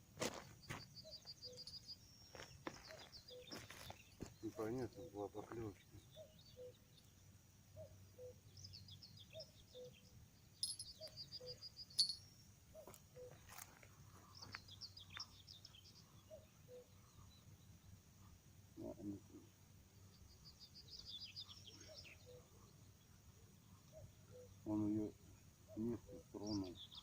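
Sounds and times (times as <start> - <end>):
songbirds chirping and trilling: 0.1 - 27.0.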